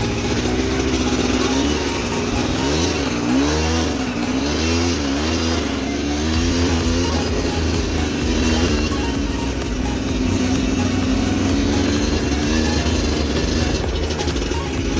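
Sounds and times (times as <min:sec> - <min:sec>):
vehicle engine revving: 0:00.0 - 0:14.9.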